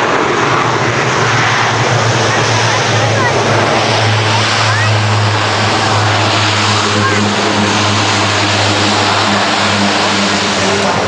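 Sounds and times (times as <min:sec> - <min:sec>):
crowd chatter: 0:00.0 - 0:11.0
loud steady rushing noise: 0:00.0 - 0:11.0.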